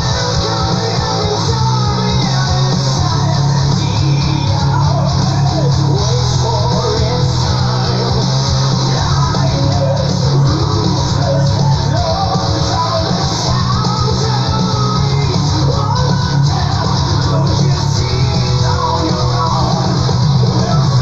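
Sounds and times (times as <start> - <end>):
progressive metal song: 0.0 - 21.0.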